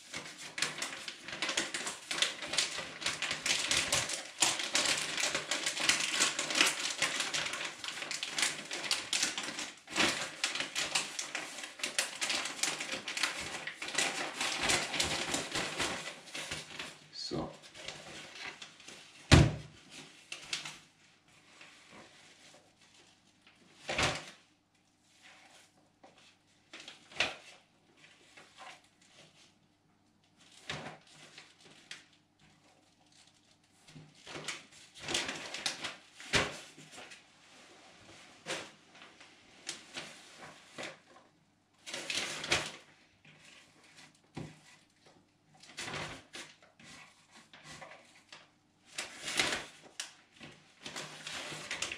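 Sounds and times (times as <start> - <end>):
plastic bags rustling and crinkling: 0.0 - 24.4, 30.4 - 51.9.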